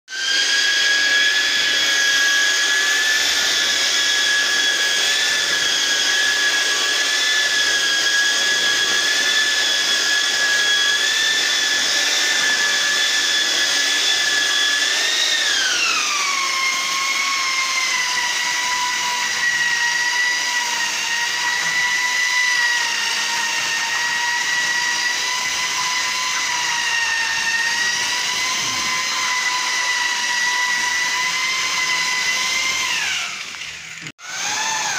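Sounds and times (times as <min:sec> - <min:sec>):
paddle mixer churning mortar: 0:00.1 - 0:34.9.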